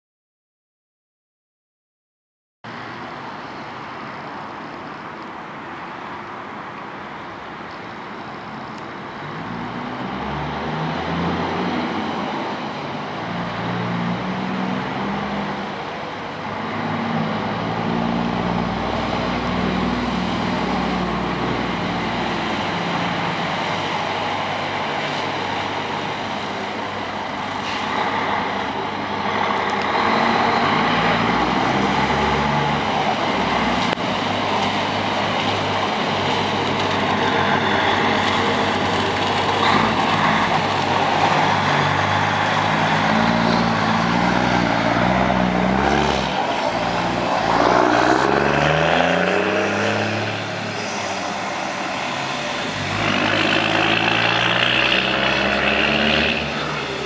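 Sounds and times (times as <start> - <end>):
lorry diesel engine accelerating: 8.6 - 57.0.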